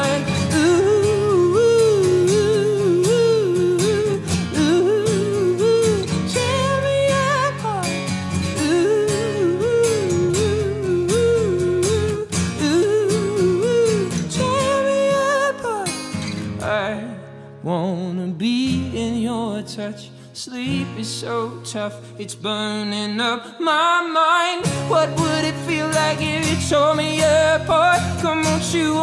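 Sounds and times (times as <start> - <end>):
acoustic guitar strummed: 0.0 - 29.0
man singing wordless melody: 0.0 - 29.0.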